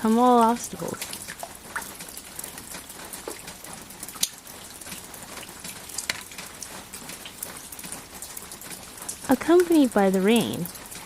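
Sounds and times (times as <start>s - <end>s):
raindrops ticking sharply: 0.0s - 11.0s
steady rain hiss: 0.0s - 11.0s.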